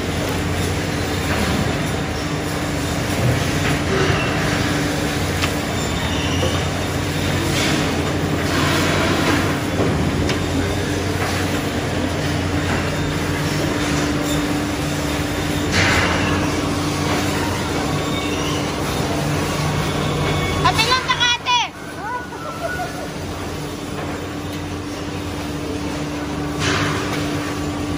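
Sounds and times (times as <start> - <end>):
conveyor belt motors humming: 0.0 - 27.9.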